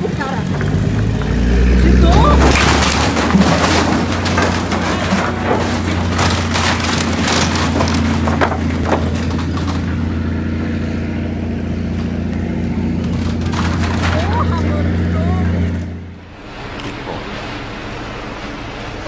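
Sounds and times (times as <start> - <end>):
low engine drone: 0.0 - 19.0
rushing crackling noise: 0.0 - 19.0.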